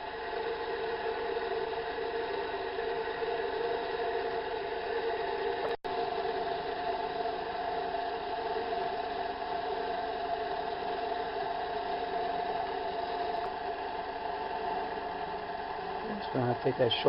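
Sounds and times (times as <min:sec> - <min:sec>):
metal lathe humming: 0:00.0 - 0:17.0.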